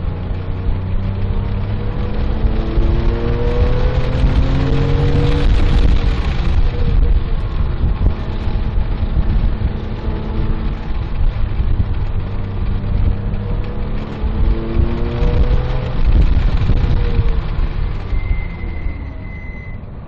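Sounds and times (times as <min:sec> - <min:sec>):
car engine revving: 0:00.0 - 0:20.0
road and tyre rumble: 0:00.0 - 0:20.0.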